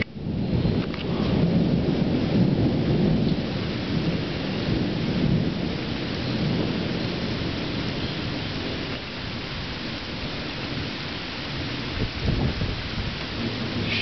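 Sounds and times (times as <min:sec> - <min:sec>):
rain falling: 0:00.0 - 0:14.0
thunder rumbling: 0:00.0 - 0:14.0.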